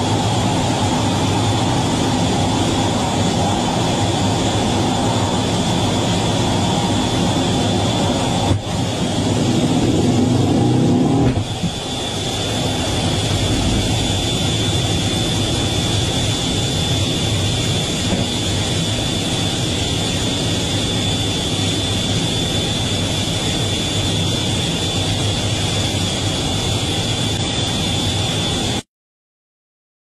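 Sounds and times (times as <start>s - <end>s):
high whine: 0.0s - 28.8s
jet engine rumble: 0.0s - 28.8s.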